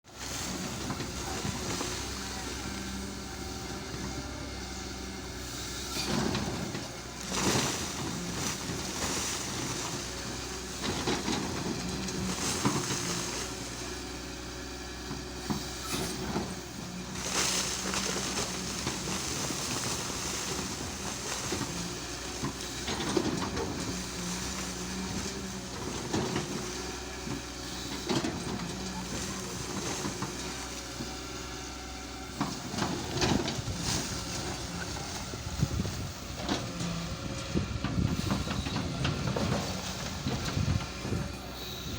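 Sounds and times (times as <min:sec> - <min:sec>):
excavator diesel engine: 0:00.0 - 0:41.9.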